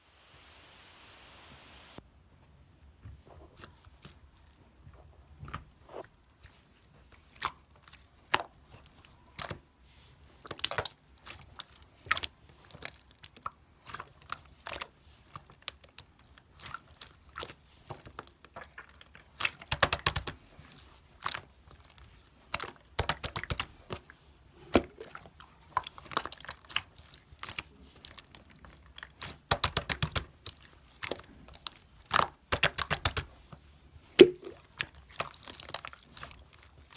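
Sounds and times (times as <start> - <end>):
slime kneaded by hand: 3.0 - 36.9.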